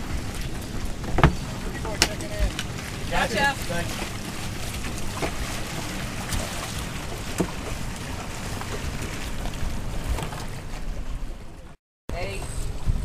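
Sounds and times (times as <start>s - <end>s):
water washing around boats: 0.0s - 13.0s
wind buffeting microphone: 0.0s - 13.0s.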